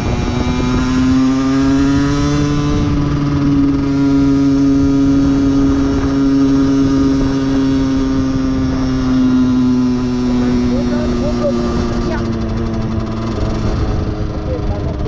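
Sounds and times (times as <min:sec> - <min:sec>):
moped engine buzzing: 0:00.0 - 0:15.0.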